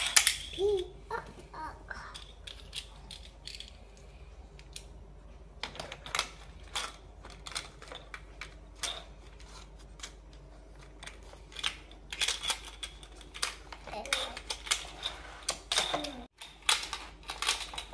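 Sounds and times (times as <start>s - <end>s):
plastic toy cars clattering: 0.0s - 0.8s, 1.9s - 3.8s, 5.6s - 17.9s.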